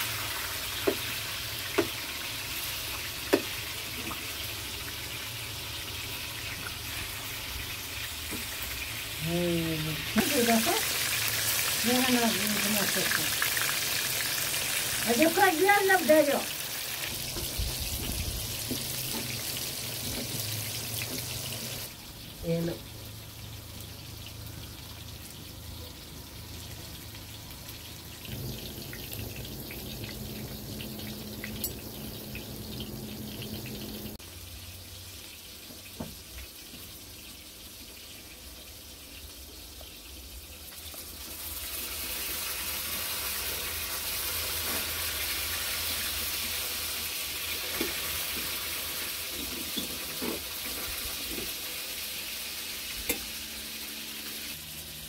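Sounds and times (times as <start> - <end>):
bread sizzling in oil: 0.0 - 55.0.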